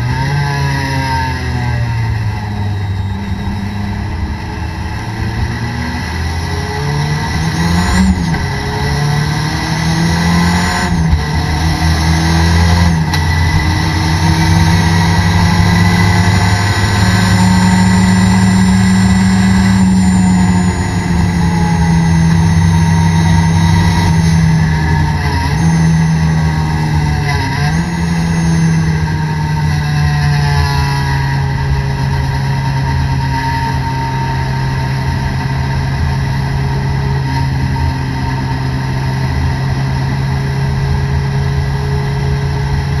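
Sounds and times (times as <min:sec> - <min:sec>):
race car engine accelerating: 0:00.0 - 0:43.0.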